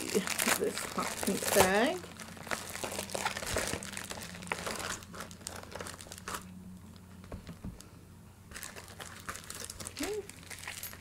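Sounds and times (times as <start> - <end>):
plastic mailer crinkling: 0.0 - 6.6, 8.5 - 11.0.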